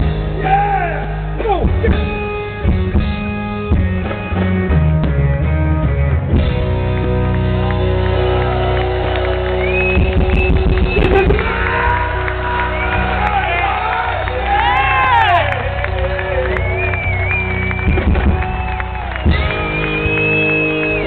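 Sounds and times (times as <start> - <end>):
bass guitar chords: 0.0 - 21.0
rock band playing loud: 0.0 - 21.0.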